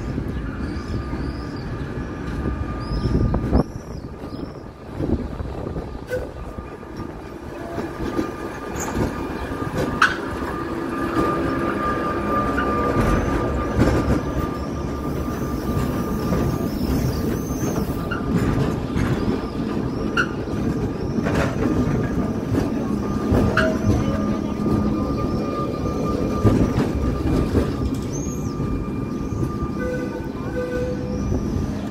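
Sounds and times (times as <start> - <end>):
tram wheels rumbling on rails: 0.0 - 31.9
wheels squealing: 6.0 - 31.9.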